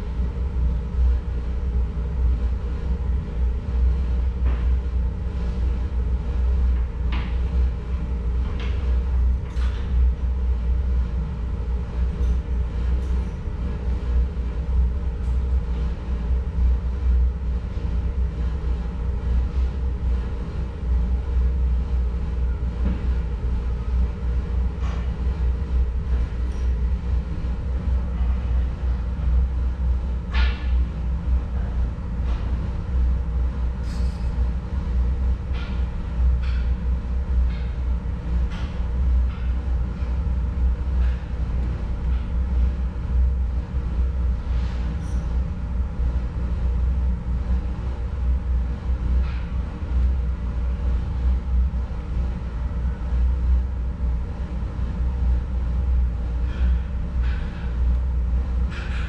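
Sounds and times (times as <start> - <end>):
electric furnace rumbling: 0.0 - 59.0.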